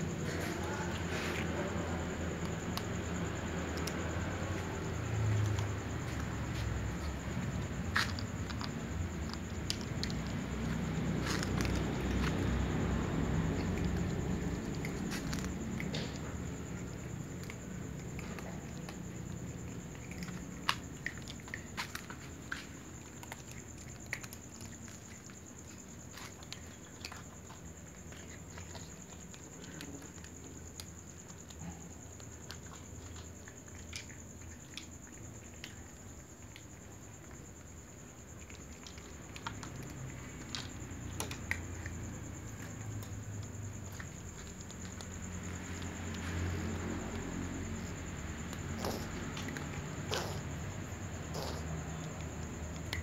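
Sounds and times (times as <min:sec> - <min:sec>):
cats crunching dry kibble: 0:00.0 - 0:53.0.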